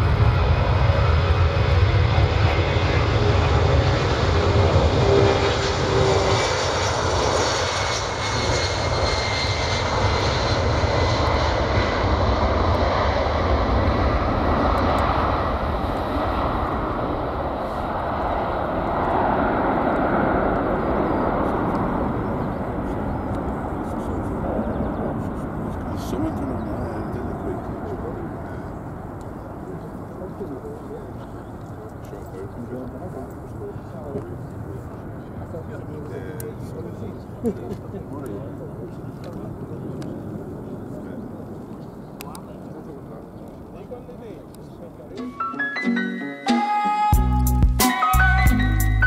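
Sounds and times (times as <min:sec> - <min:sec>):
jet engines roaring at takeoff: 0:00.0 - 0:45.2.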